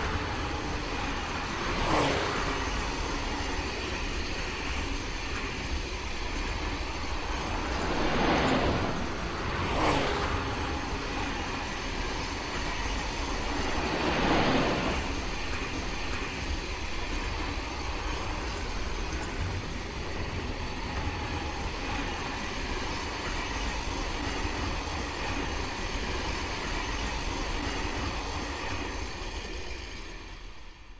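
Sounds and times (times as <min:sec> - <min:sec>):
train wheels rumbling on track: 0:00.0 - 0:30.9.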